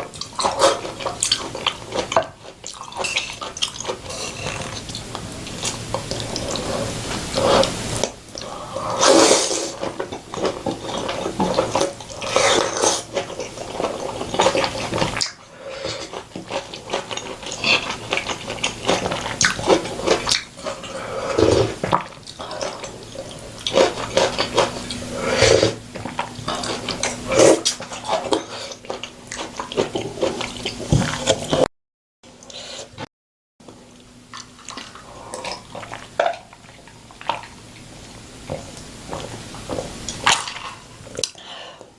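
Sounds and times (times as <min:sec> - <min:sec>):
wet chewing and slurping: 0:00.0 - 0:31.7, 0:34.3 - 0:41.9.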